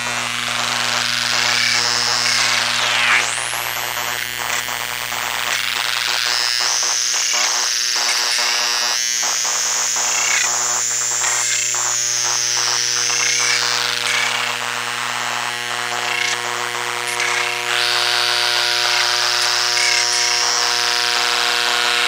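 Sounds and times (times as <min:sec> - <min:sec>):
high electronic whine: 0:00.0 - 0:22.0
stuttering clicking buzz: 0:00.0 - 0:22.0.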